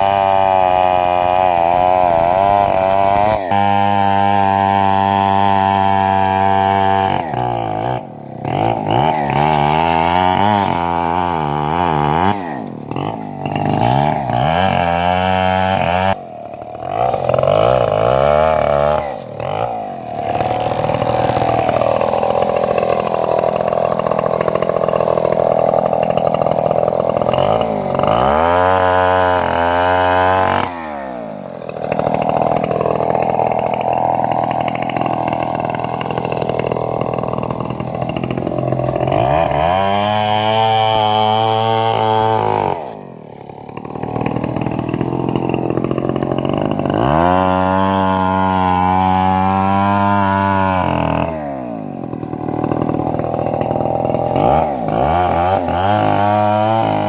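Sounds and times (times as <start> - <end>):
bandsaw cutting wood: 0.0 - 57.0.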